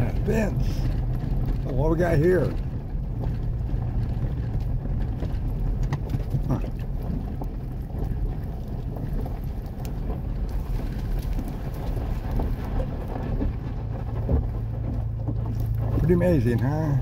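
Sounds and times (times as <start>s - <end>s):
small clicks and rattles: 0.0s - 17.0s
vehicle rolling over gravel: 0.0s - 17.0s.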